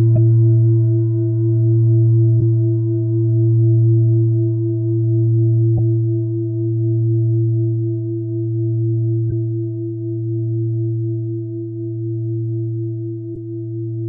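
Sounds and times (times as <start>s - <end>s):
meditative drone of sustained tones: 0.0s - 14.0s.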